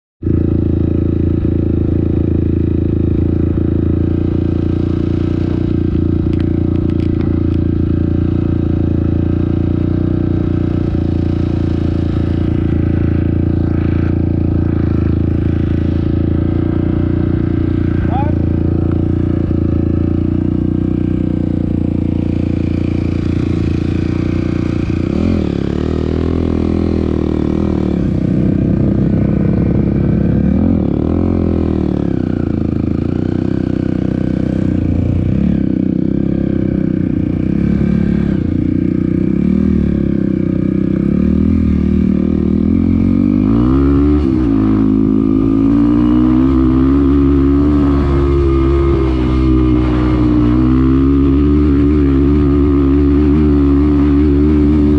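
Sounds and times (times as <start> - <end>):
dirt bike engine revving: 0.2 - 54.9.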